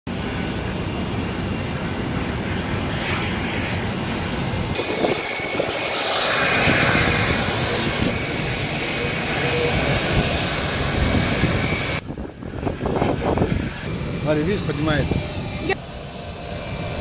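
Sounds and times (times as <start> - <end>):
jet engines rushing and rumbling: 0.1 - 17.0.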